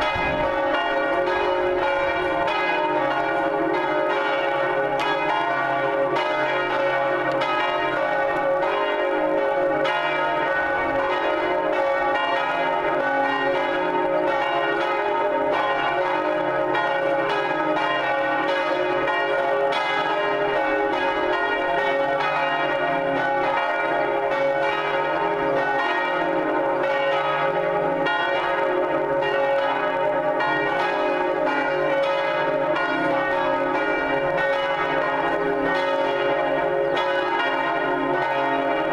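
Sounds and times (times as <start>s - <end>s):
church bells ringing in peal: 0.0s - 38.9s.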